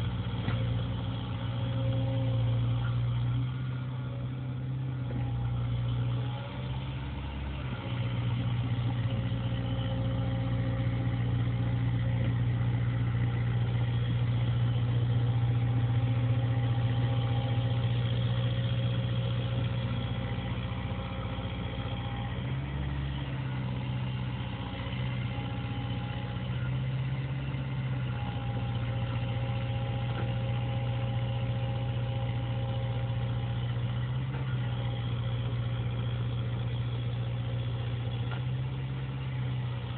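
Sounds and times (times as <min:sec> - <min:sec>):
mini excavator diesel engine running: 0:00.0 - 0:39.9.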